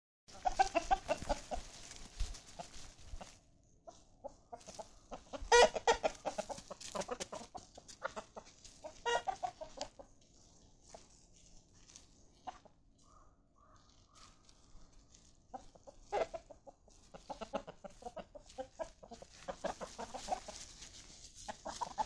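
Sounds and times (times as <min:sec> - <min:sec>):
chickens clucking: 0:00.3 - 0:22.0.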